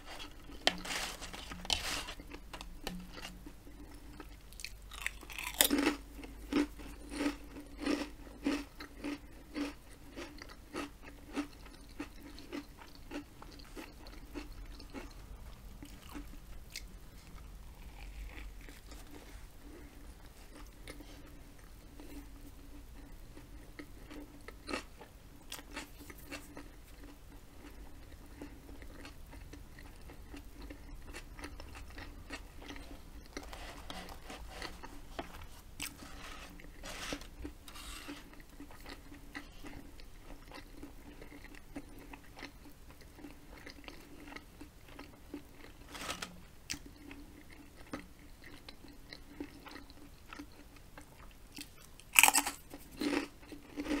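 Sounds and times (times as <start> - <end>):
chewing with mouth smacks: 2.2 - 21.1, 23.0 - 33.4, 38.2 - 45.8, 46.7 - 54.0.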